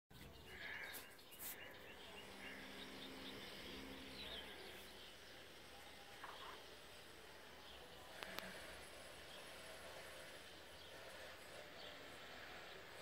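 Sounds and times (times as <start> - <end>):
distant birds chirping: 0.1 - 13.0
faint low hum: 0.1 - 13.0.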